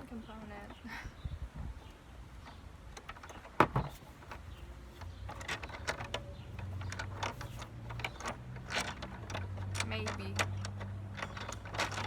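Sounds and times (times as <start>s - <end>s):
screwdriver and metal parts rattling: 2.3s - 12.0s.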